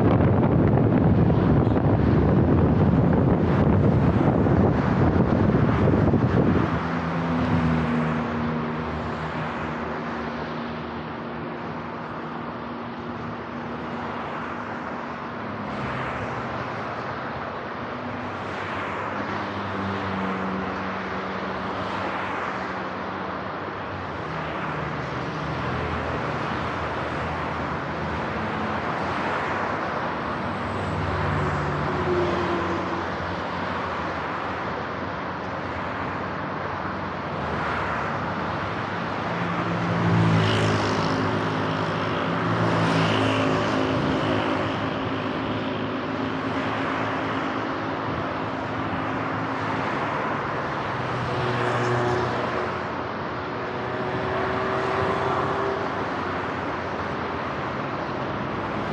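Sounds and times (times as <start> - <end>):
passing car engines: 0.0 - 58.9
road noise: 0.0 - 58.9.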